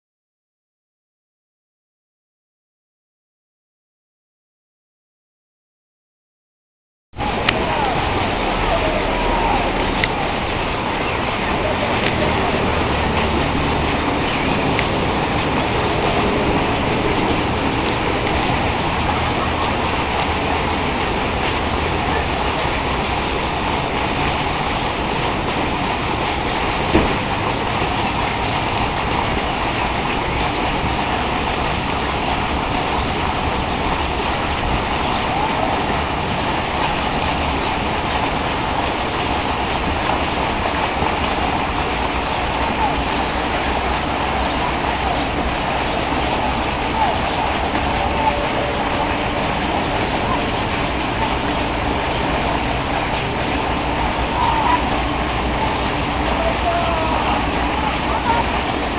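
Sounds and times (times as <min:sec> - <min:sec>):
fountain water splashing: 0:07.2 - 0:58.9.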